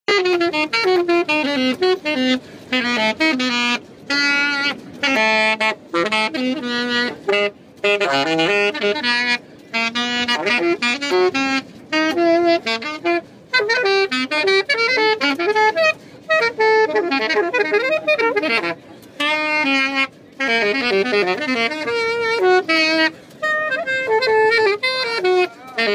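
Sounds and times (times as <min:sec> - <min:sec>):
solo saxophone: 0:00.1 - 0:25.9.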